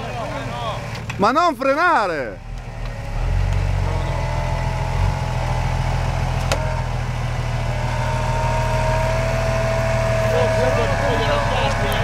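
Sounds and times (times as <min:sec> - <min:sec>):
off-road truck engine running: 0:00.0 - 0:12.0.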